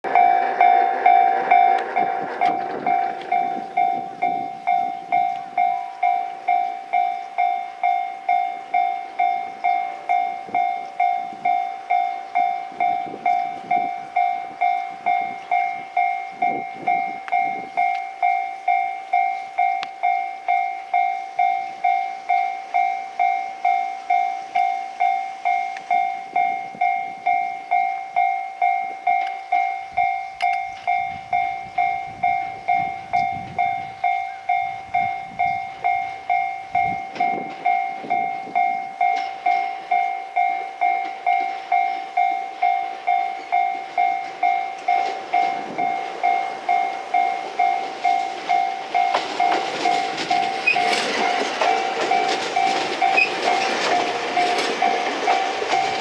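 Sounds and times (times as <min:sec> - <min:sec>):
level-crossing warning bell ringing: 0:00.0 - 0:56.0.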